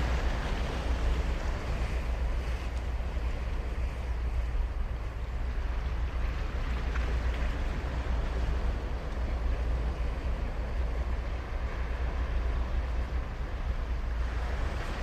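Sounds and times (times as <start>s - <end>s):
waves breaking on beach: 0.0s - 15.0s
wind rumble on microphone: 0.0s - 15.0s.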